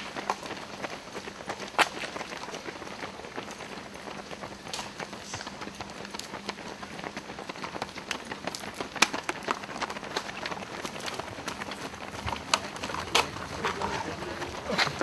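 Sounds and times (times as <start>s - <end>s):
runners' footsteps on asphalt: 0.0s - 15.0s.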